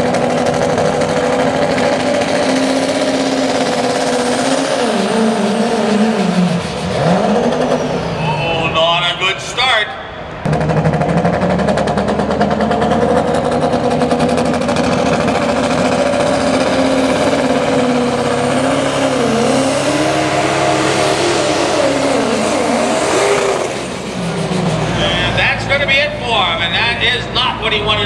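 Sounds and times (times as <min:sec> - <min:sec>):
diesel engine under full load: 0:00.0 - 0:28.0.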